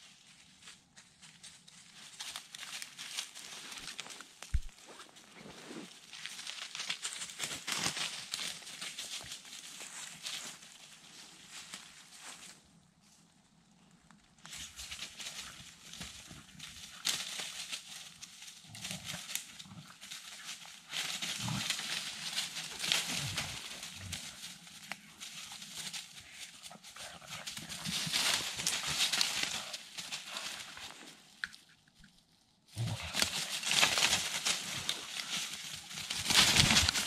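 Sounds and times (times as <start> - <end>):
dry leaves crunching and rustling: 0.0 - 12.6, 14.5 - 31.4, 32.8 - 37.0.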